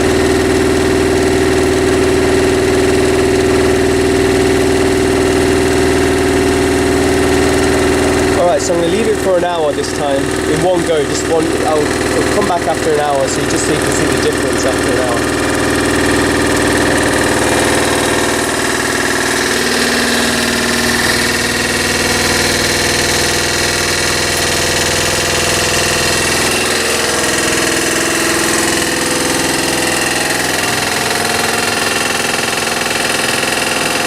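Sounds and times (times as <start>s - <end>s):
motor hum and vibration: 0.0s - 34.0s.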